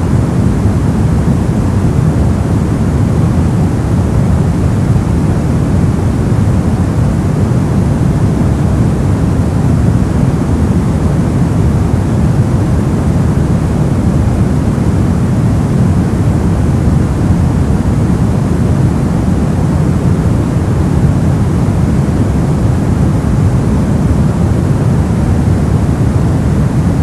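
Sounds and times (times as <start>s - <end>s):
brown noise: 0.0s - 27.0s.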